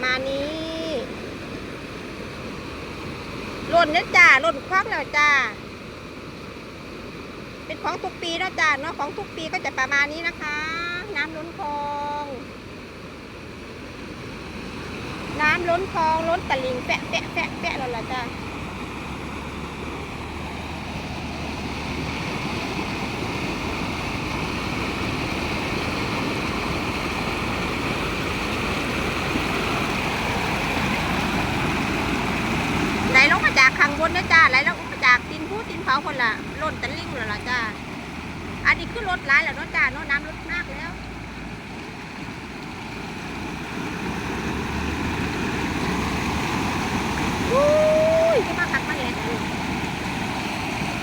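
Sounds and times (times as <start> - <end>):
floodwater rushing: 0.0 - 51.0
vehicle engine and tyres: 9.9 - 51.0.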